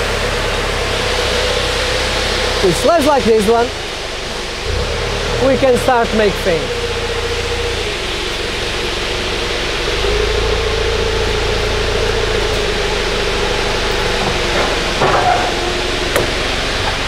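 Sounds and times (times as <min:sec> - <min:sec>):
forklift engine running: 0:00.0 - 0:17.0
steady whine: 0:00.0 - 0:17.0.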